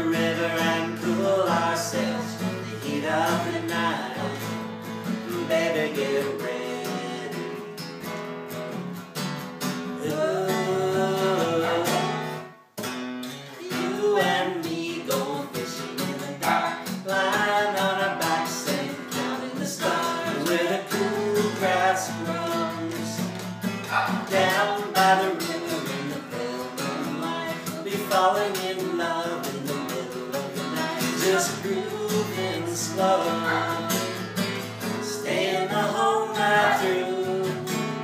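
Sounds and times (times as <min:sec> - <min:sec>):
acoustic guitars strumming: 0:00.0 - 0:38.0.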